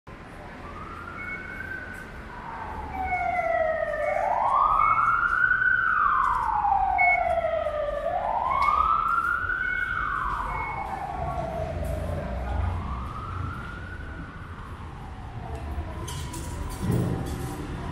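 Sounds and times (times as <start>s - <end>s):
siren wailing: 0.6s - 16.4s.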